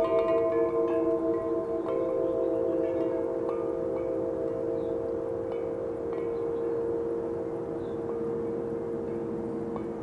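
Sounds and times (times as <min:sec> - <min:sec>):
large wind chimes ringing: 0:00.0 - 0:10.0.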